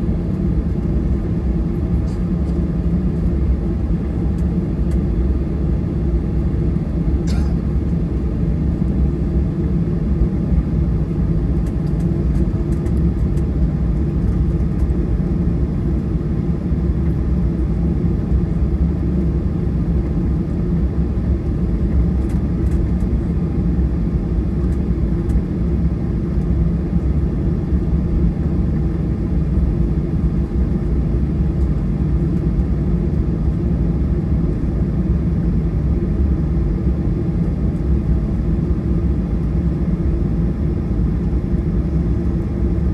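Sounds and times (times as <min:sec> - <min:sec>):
jet engines rumbling in cabin: 0:00.0 - 0:42.9.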